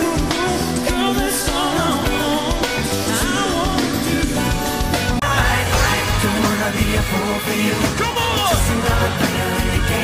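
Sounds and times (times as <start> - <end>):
bass line: 0.0 - 10.0
person singing: 0.0 - 10.0.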